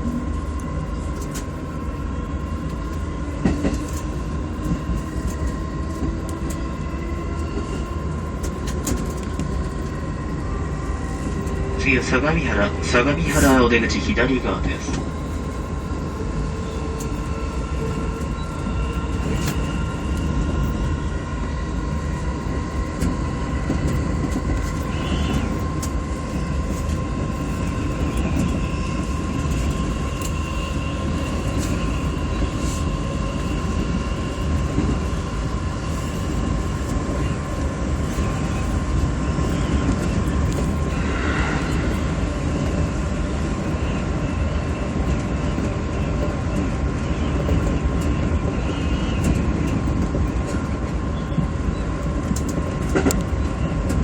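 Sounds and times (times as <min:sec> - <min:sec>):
train rumbling with whine: 0:00.0 - 0:54.0.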